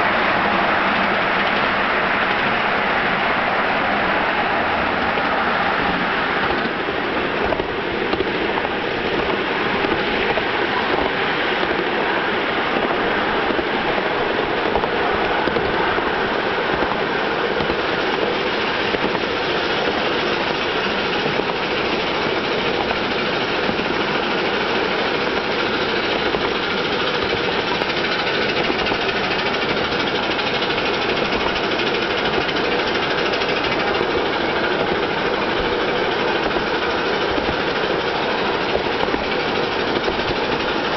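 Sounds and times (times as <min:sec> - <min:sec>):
miniature train wheels rolling: 0:00.0 - 0:40.9.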